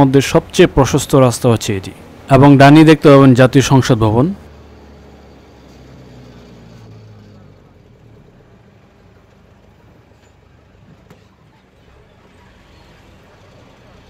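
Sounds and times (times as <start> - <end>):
engine hum: 0.0 - 14.0
road and engine noise: 0.0 - 14.0.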